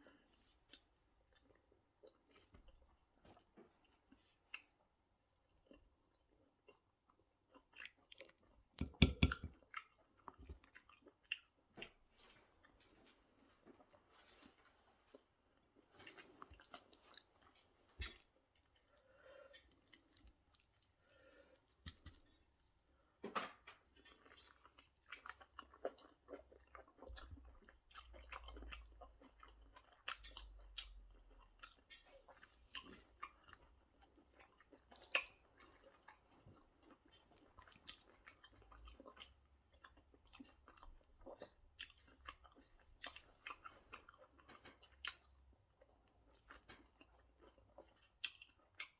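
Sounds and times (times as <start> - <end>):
person chewing with wet clicks: 0.0 - 22.9, 23.8 - 48.9.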